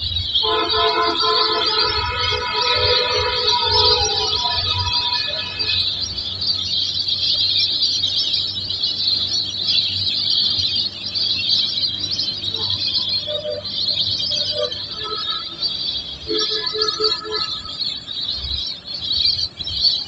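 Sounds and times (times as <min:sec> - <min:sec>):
birds chirping in chorus: 0:00.0 - 0:20.0
lower bird calls: 0:00.0 - 0:20.0.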